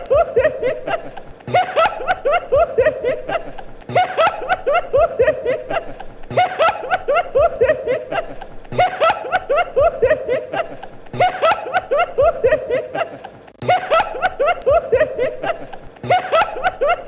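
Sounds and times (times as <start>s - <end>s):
woman laughing high-pitched: 0.0s - 17.0s.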